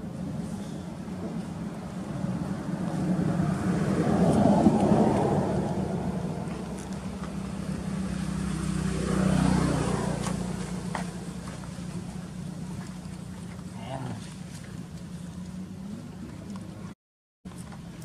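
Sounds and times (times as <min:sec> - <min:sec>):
passing motor traffic: 0:00.0 - 0:17.0.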